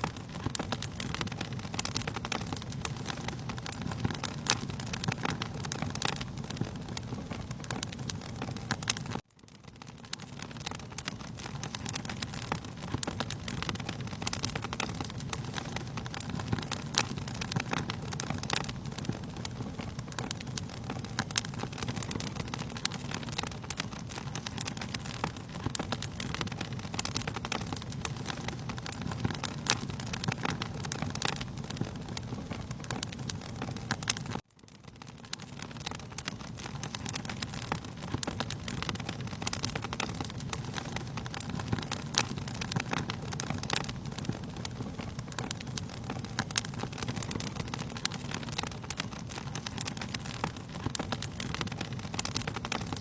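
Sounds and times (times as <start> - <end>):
fire popping and snapping: 0.0 - 53.0
wood fire crackling: 0.0 - 53.0.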